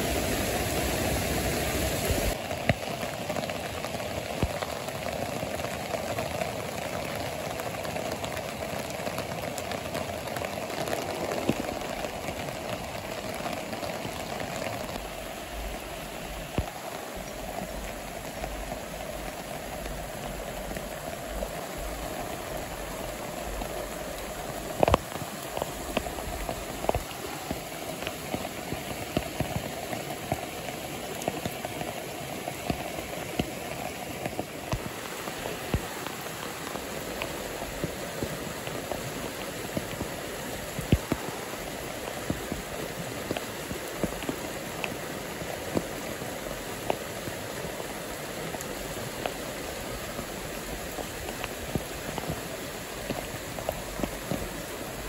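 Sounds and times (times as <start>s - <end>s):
rain falling on leaves: 0.0s - 55.0s
stream rushing: 0.0s - 55.0s.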